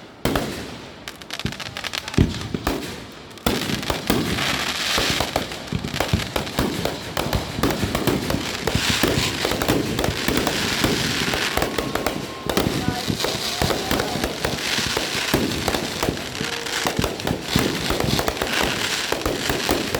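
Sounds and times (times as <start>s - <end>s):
firework bangs: 0.0s - 19.9s
rapid crackling firework pops: 0.0s - 19.9s.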